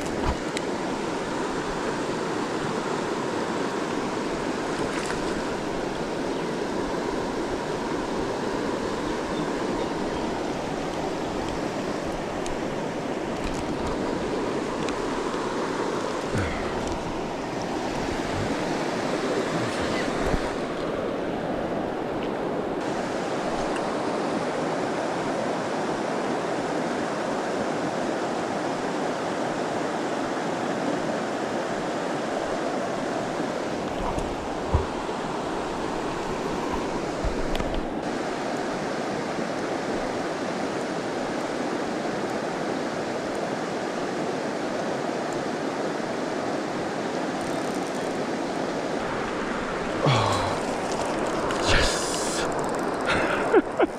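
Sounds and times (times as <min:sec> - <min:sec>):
river water flowing: 0:00.0 - 0:53.9.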